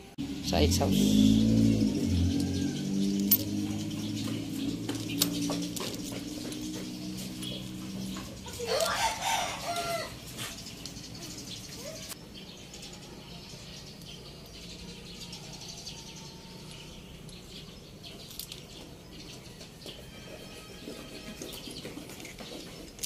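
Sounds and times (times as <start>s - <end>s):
bird chirps: 0.2s - 23.0s.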